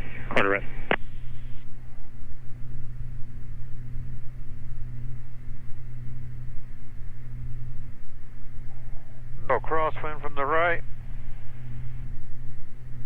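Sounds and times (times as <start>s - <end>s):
twin piston engines droning: 0.0s - 13.0s.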